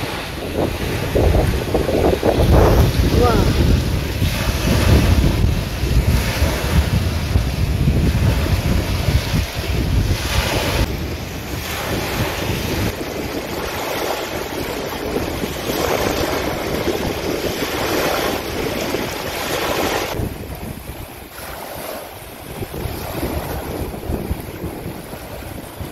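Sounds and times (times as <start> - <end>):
small waves washing onto shore: 0.0 - 25.9
wind buffeting microphone: 0.0 - 25.9.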